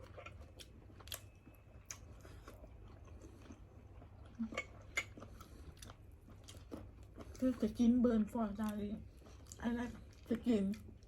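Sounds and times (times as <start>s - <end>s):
chewing and mouth smacks: 0.0s - 11.0s.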